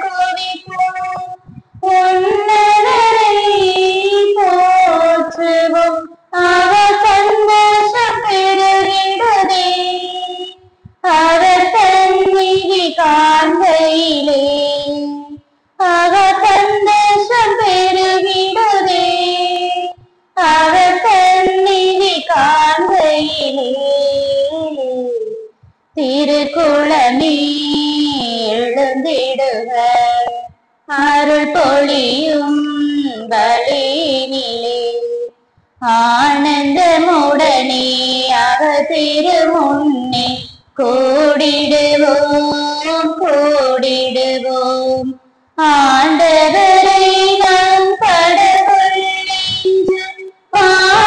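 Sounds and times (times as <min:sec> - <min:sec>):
high voices singing a hymn: 0:00.0 - 0:51.0.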